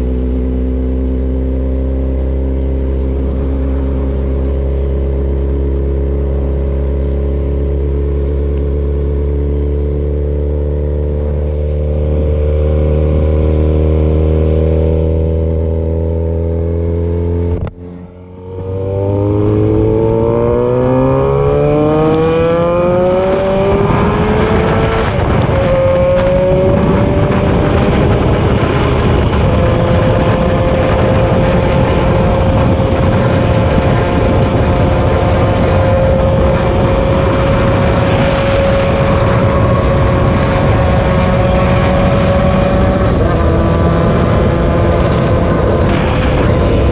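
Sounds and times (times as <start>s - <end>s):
road and wind noise: 0.0s - 46.9s
vehicle engine: 0.0s - 46.9s.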